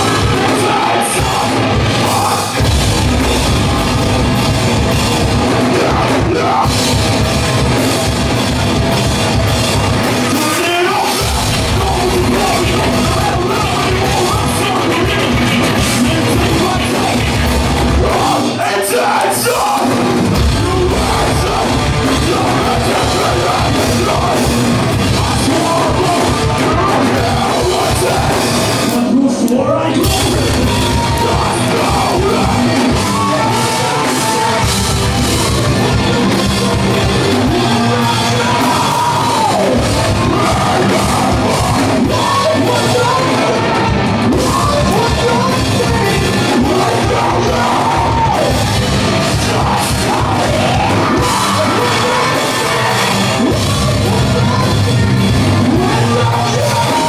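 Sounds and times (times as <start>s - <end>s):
person singing: 0.0s - 7.0s, 10.2s - 57.0s
bass guitar: 0.0s - 57.0s
distorted electric guitars: 0.0s - 57.0s
drum kit: 0.0s - 57.0s.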